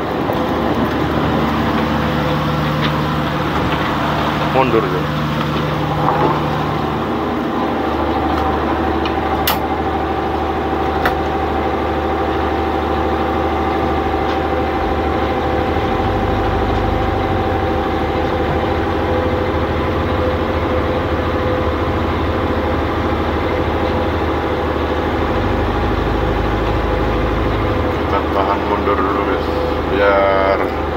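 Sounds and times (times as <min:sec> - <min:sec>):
boat diesel engine humming: 0:00.0 - 0:30.9.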